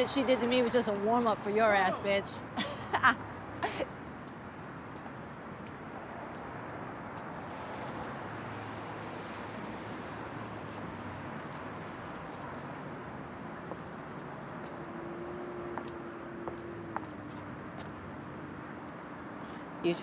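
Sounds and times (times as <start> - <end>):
passing cars: 0.0 - 20.0.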